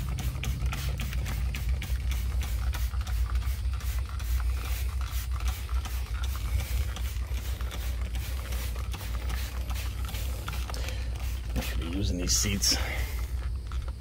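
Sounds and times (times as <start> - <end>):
spray bottle clicks and spritzes: 0.0 - 12.0
low steady hum: 0.0 - 14.0.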